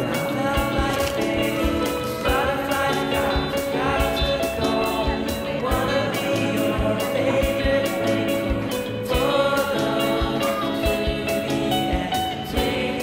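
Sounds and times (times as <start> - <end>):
song with singing: 0.0 - 13.0
steady drum beat: 0.0 - 13.0.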